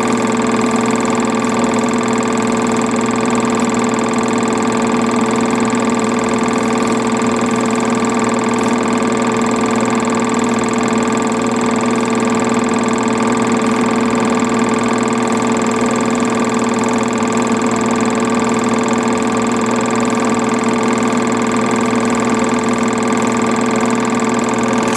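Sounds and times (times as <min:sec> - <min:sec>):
film projector running: 0:00.0 - 0:24.9.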